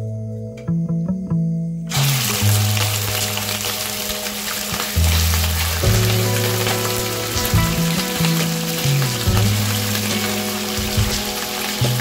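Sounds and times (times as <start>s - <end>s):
background music with bass line: 0.0s - 12.0s
chicken sizzling in hot oil: 1.9s - 12.0s.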